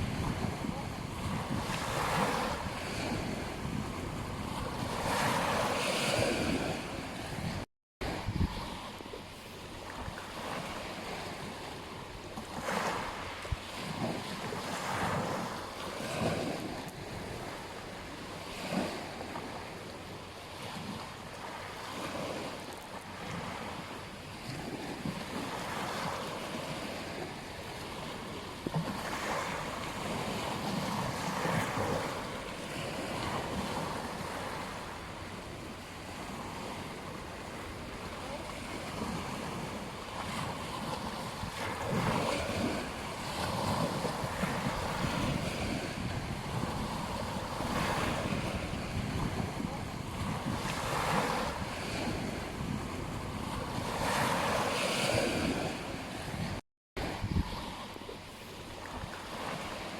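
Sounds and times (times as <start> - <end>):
surf washing onto beach: 0.0 - 17.7, 20.6 - 59.9.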